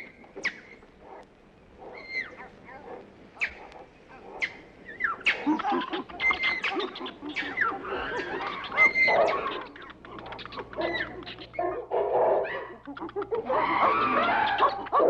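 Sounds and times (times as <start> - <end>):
animal calls: 0.0 - 15.0.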